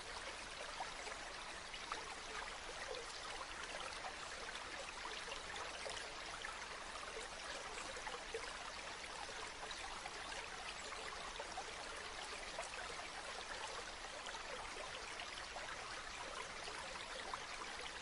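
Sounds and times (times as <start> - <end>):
stream water running: 0.0 - 18.0.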